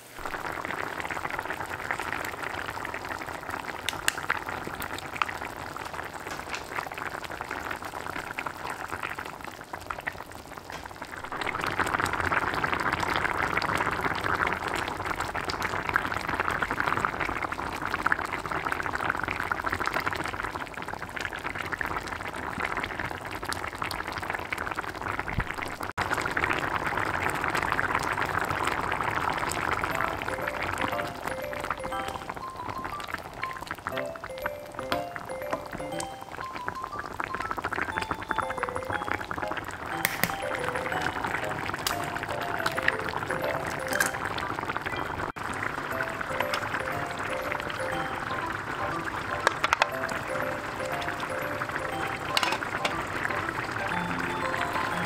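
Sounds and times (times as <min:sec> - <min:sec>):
stew bubbles popping: 0:00.2 - 0:55.0.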